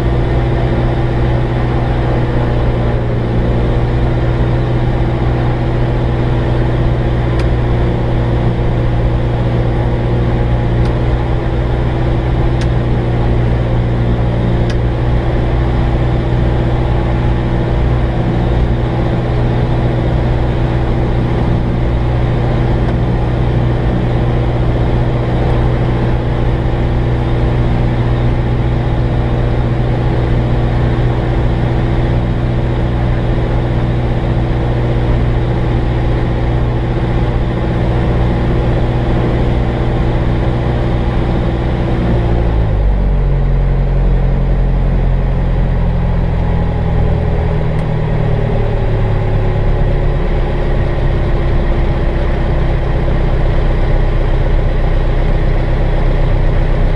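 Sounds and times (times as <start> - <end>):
light aircraft engine and propeller: 0.0 - 56.9.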